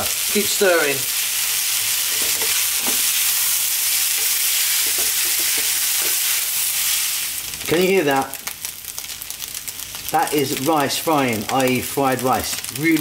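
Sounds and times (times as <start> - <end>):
rice sizzling in a wok: 0.0 - 13.0.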